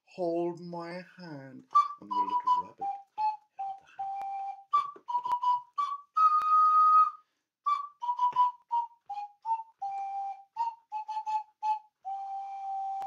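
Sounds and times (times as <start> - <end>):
ocarina melody: 1.6 - 13.0.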